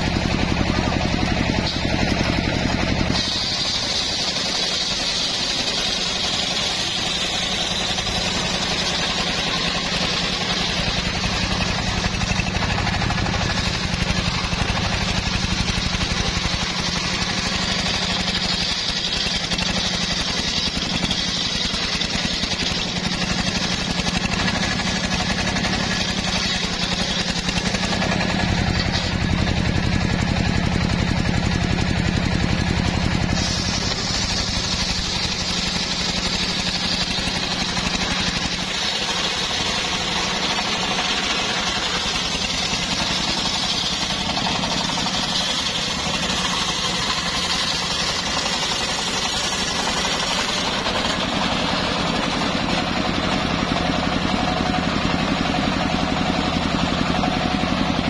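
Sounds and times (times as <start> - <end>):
sawmill engine running under load: 0.0 - 58.0
saw blade hissing through wood: 0.1 - 57.6.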